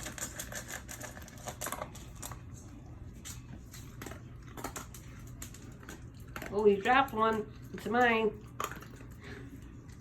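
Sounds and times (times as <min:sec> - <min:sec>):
dog chewing food: 0:00.0 - 0:10.0
low steady hum: 0:00.0 - 0:10.0.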